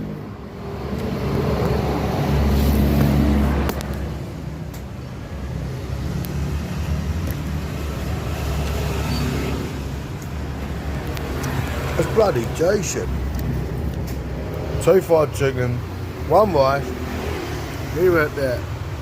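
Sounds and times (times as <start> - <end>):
road traffic: 0.0 - 19.0
vehicle engine rumble: 0.0 - 19.0.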